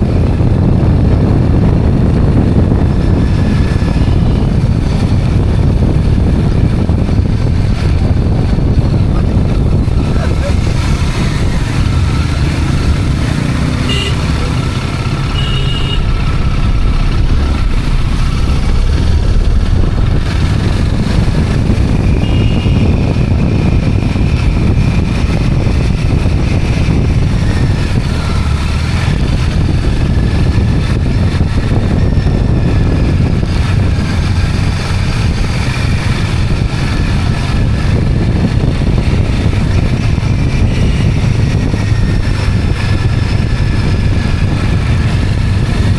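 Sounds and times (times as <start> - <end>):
motorcycle engine and road noise: 0.0 - 45.9.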